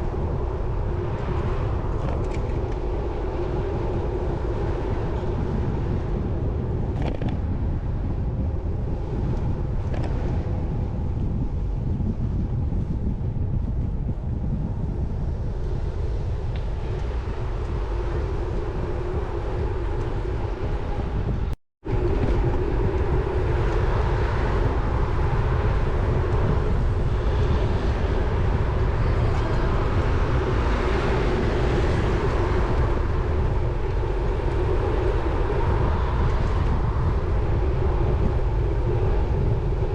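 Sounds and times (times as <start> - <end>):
road noise: 0.0 - 13.5, 14.1 - 39.9
wind rumbling on microphone: 0.0 - 39.9.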